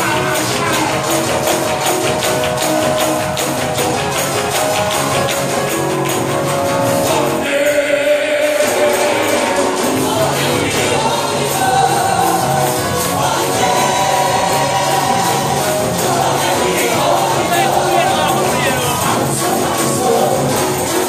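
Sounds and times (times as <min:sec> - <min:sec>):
gospel worship singing: 0:00.0 - 0:21.0
tambourine beat: 0:00.0 - 0:21.0.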